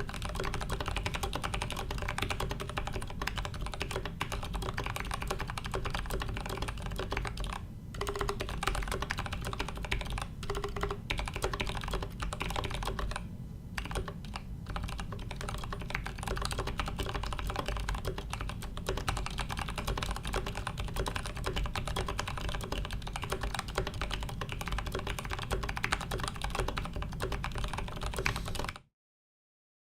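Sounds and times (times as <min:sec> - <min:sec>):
fast typing on mechanical keyboard: 0:00.0 - 0:28.9.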